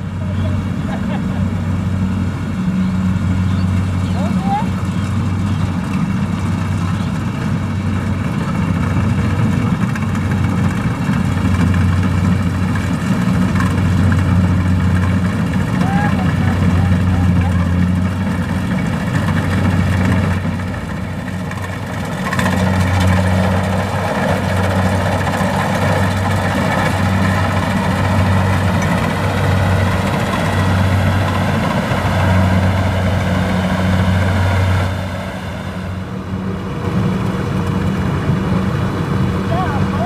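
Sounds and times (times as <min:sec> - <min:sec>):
diesel engine humming: 0:00.0 - 0:40.0.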